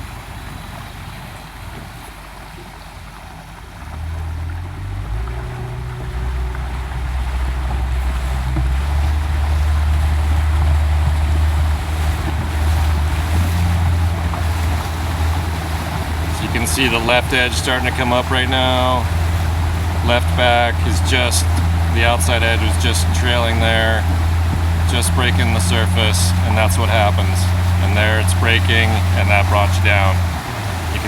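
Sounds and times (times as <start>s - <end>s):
motorboat engine running: 0.0s - 31.0s
water rushing along hull: 0.0s - 31.0s
wind on microphone: 3.9s - 31.0s.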